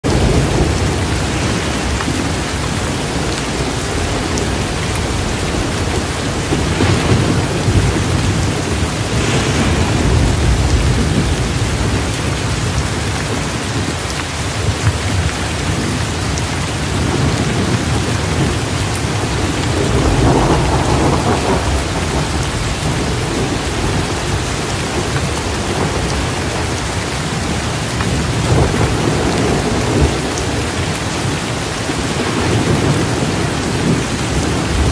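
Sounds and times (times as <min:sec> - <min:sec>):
low rolling thunder: 0:00.0 - 0:34.9
steady rain: 0:00.0 - 0:34.9.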